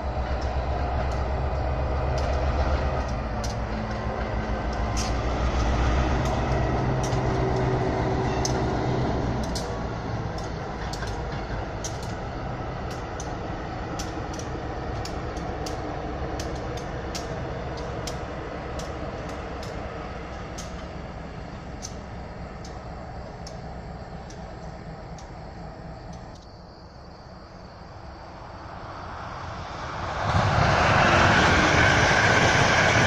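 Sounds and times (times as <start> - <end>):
locomotive engine drone: 0.0 - 33.0
wheels clicking over rail joints: 0.0 - 33.0.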